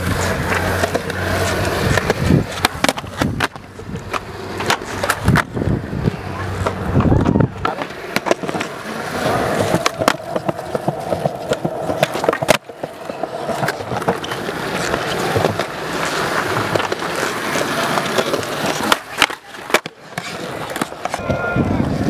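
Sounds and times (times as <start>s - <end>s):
skateboard clacking: 0.0s - 22.0s
skateboard wheels rolling on concrete: 0.0s - 22.0s.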